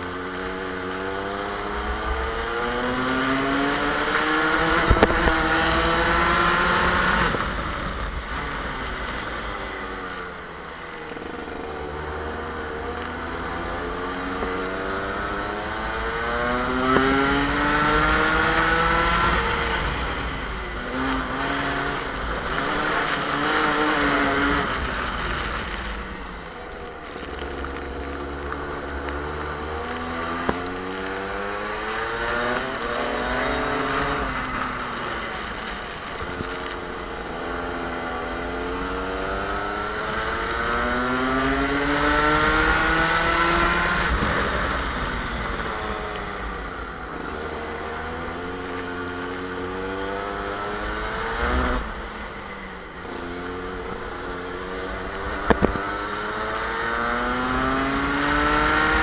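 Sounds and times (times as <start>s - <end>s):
kart engine revving: 0.0s - 59.0s
low rumble of wind: 0.0s - 59.0s.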